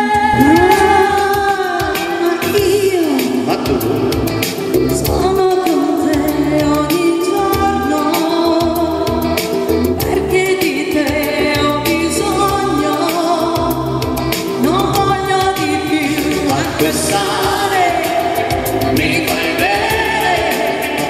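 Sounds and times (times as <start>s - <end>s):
woman and man singing a duet: 0.0s - 4.4s, 5.0s - 9.2s, 10.0s - 13.8s, 14.6s - 21.0s
backing track with steady beat: 0.0s - 21.0s.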